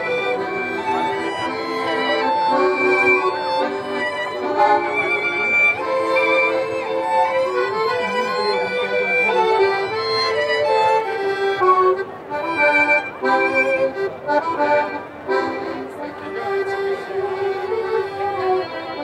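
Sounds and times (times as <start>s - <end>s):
folk band with fiddles playing: 0.0s - 19.0s.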